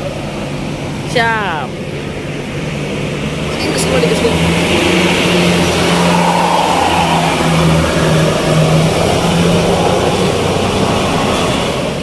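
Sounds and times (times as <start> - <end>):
bus engine accelerating: 0.0 - 12.0
road noise: 0.0 - 12.0.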